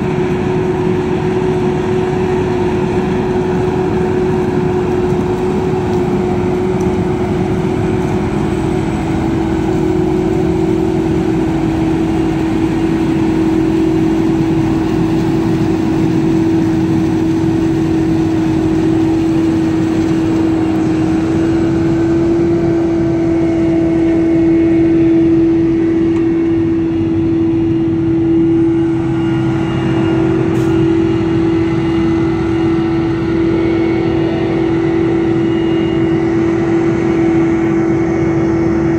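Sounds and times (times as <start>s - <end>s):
tractor engine: 0.0s - 38.9s.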